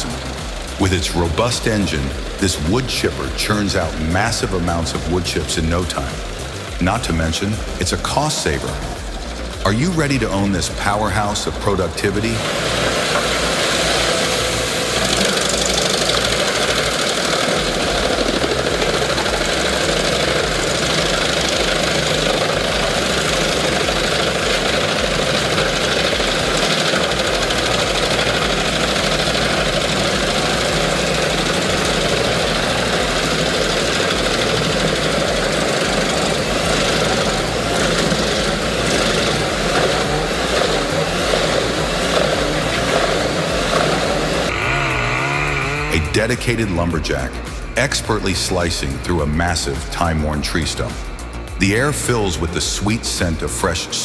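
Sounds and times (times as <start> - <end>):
wood chipper running: 0.0 - 53.2.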